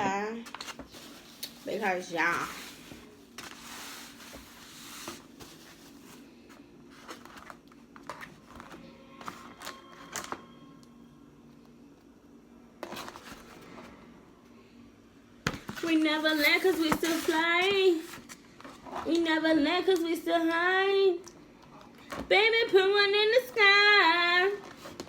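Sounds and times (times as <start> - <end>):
faint music: 0.0 - 25.0.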